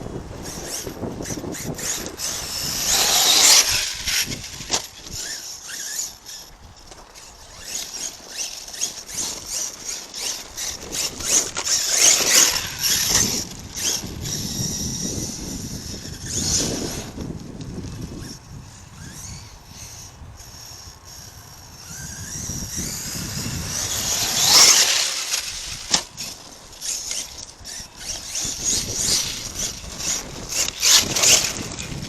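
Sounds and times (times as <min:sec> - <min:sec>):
motor and drivetrain whine: 0:00.0 - 0:32.0.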